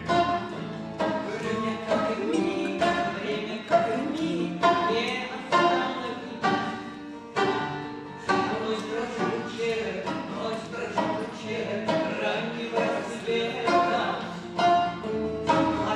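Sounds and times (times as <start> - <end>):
instrumental accompaniment: 0.0 - 15.9
person singing: 1.0 - 14.4.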